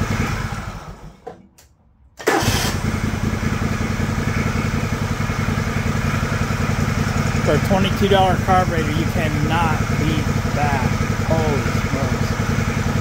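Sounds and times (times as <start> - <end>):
mower engine winding down: 0.0 - 1.3, 2.2 - 13.0
mower engine starting and running: 0.0 - 13.0.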